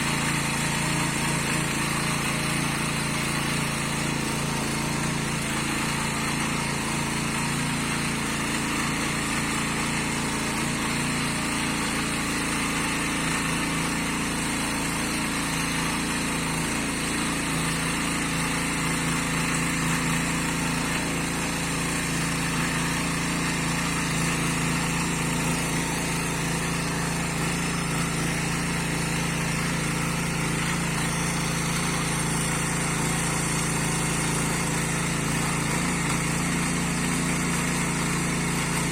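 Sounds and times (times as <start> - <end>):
small petrol engine running: 0.0 - 38.9.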